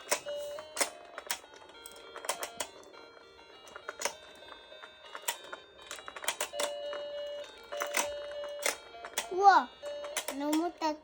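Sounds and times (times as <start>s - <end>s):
plastic toy pieces clicking: 0.0s - 10.8s.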